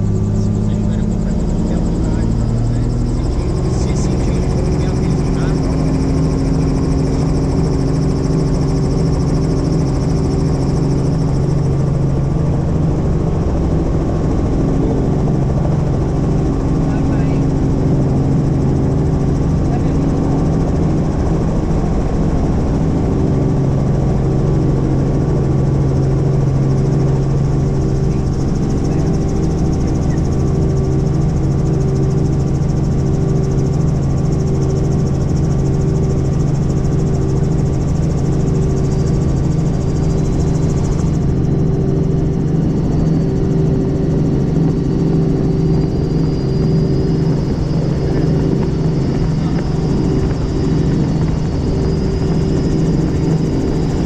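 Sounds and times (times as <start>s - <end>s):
faint high whine: 0.0s - 54.0s
helicopter engine and rotor noise: 0.0s - 54.0s.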